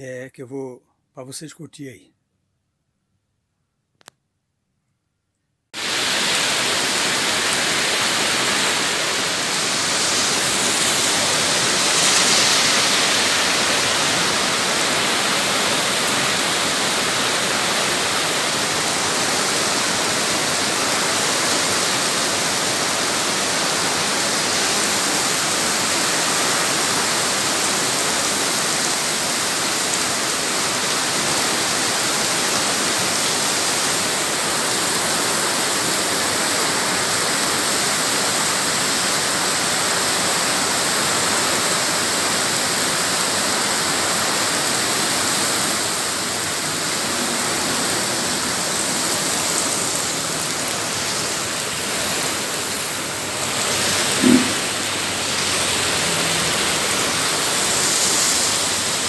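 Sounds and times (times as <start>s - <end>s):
heavy rain on pavement: 5.8s - 59.0s.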